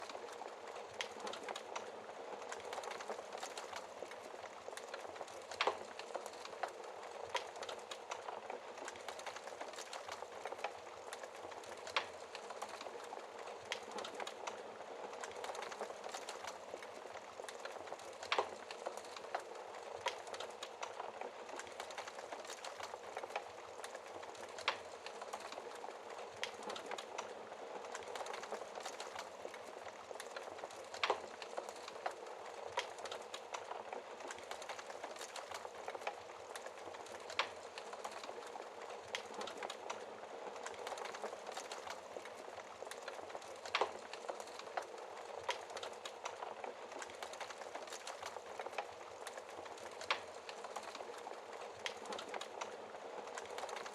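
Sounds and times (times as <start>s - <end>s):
fire pops: 0.0s - 53.9s
wood fire crackling: 0.0s - 53.9s.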